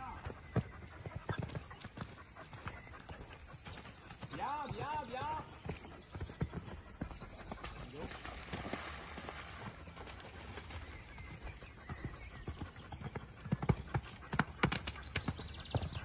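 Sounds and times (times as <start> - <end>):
horse hoofbeats on wet sand: 0.0 - 16.0.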